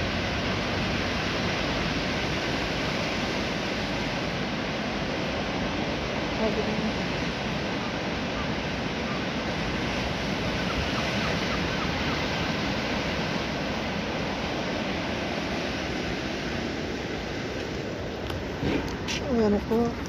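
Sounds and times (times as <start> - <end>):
ocean surf breaking on rocks: 0.0 - 20.0.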